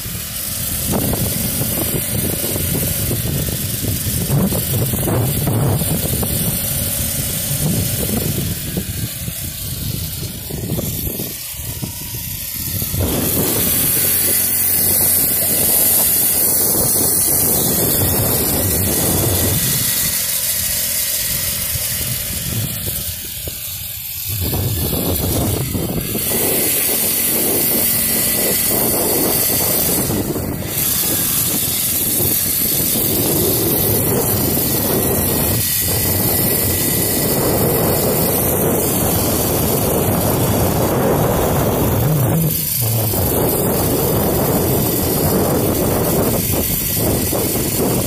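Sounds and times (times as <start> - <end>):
small motorbike engine running: 0.0 - 48.0
wind noise on microphone: 0.0 - 48.0.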